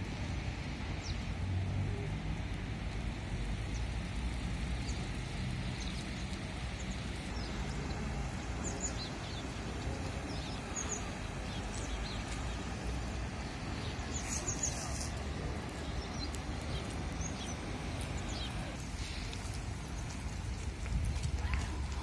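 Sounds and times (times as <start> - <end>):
low rumble and hiss: 0.0 - 22.0
small birds chirping: 3.2 - 22.0.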